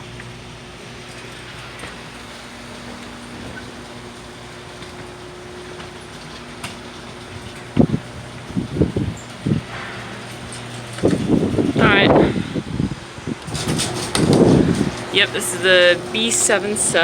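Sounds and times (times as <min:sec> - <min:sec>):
garage door opener motor hum: 0:00.0 - 0:17.0.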